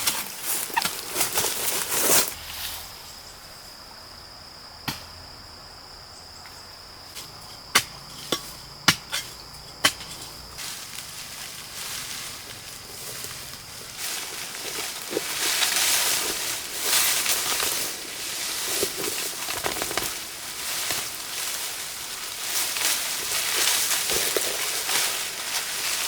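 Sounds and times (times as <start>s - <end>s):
insect buzzing: 0.0s - 26.0s.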